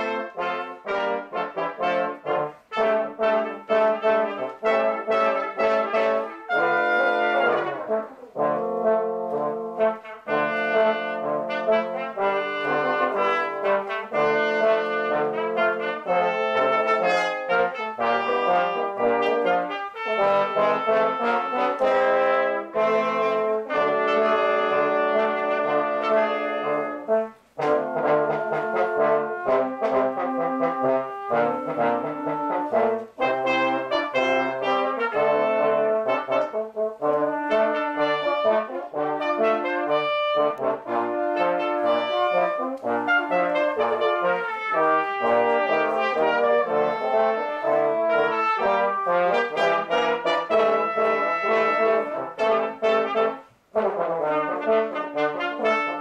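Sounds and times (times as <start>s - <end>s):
brass ensemble playing: 0.0s - 56.0s.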